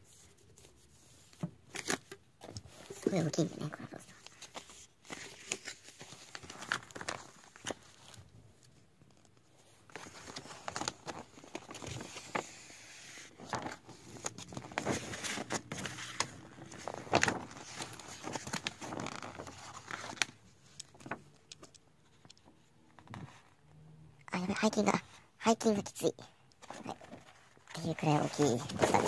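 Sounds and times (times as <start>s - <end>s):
paper poster rustling and crackling: 0.0s - 23.6s, 26.6s - 29.0s.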